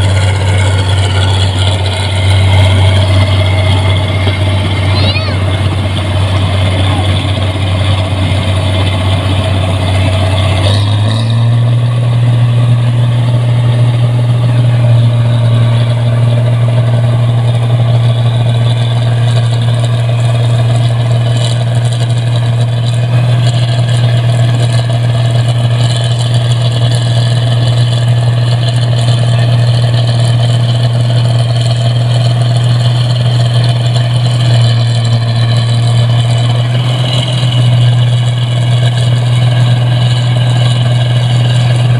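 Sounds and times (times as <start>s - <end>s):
harvester engine running: 0.0s - 41.9s.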